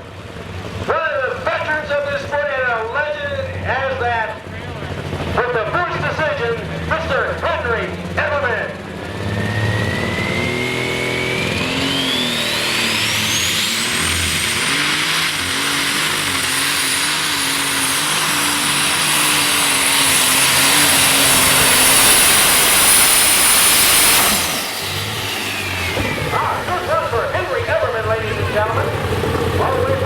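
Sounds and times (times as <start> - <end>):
high turbo whine: 0.0 - 30.0
tractor engine roaring: 0.0 - 30.0.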